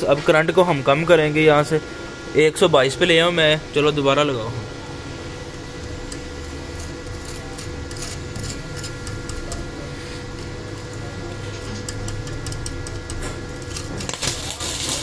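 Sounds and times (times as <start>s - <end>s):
welder hum: 0.0s - 15.0s
welding arc crackling: 0.0s - 15.0s.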